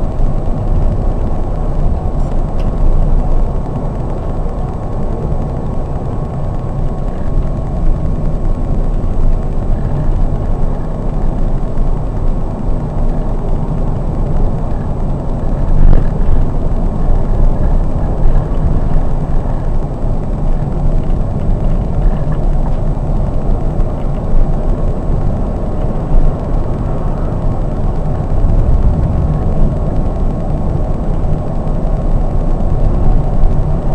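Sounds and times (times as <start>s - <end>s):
coach engine and road rumble: 0.0s - 33.9s
faint steady whine: 0.0s - 33.9s.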